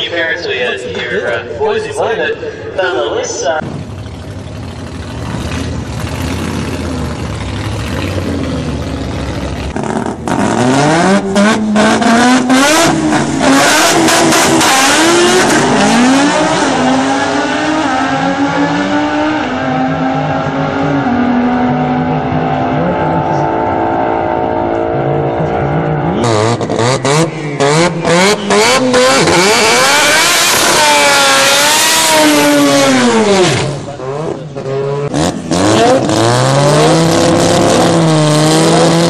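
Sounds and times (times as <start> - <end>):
race car engine revving: 3.6 - 39.0.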